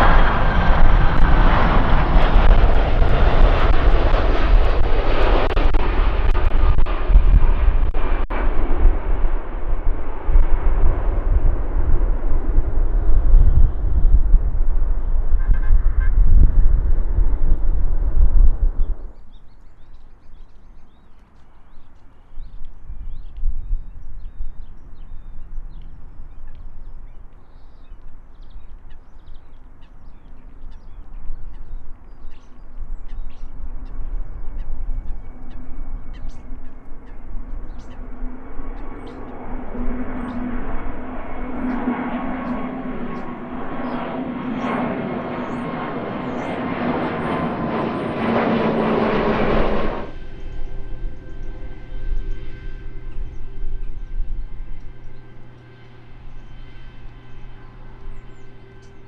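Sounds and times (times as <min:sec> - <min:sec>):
jet engines roaring: 0:00.0 - 0:19.1, 0:24.6 - 0:59.0.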